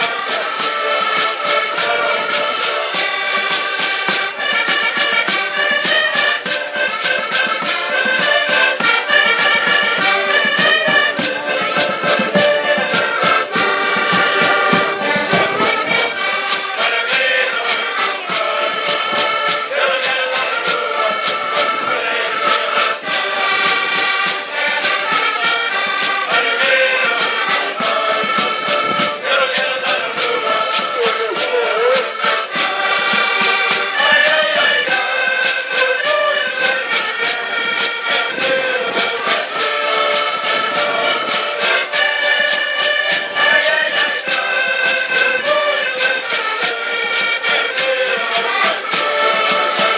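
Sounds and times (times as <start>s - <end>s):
accordions playing: 0.0s - 49.9s
cavaquinho: 0.0s - 49.9s
men singing: 0.0s - 49.9s
ticking percussion beat: 0.0s - 49.9s.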